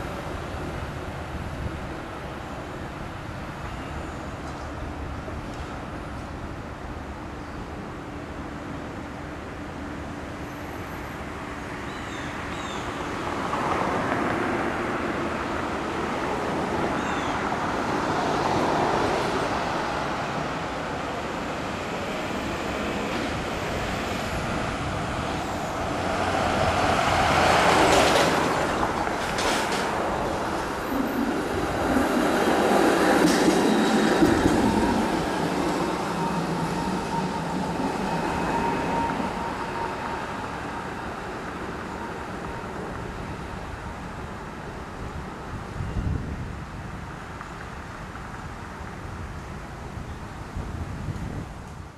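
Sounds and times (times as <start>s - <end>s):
streetcar wheels rumbling on rails: 0.0s - 51.9s.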